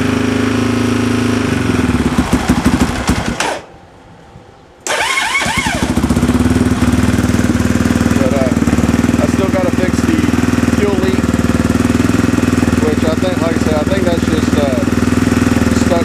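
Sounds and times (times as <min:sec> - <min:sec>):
quad bike engine running: 0:00.0 - 0:03.6, 0:05.0 - 0:16.0.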